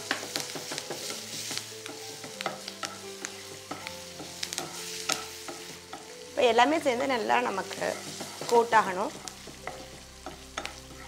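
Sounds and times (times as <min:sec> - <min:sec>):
spatula scraping pan: 0:00.0 - 0:06.1, 0:07.6 - 0:11.0
oil sizzling in pan: 0:00.0 - 0:11.0.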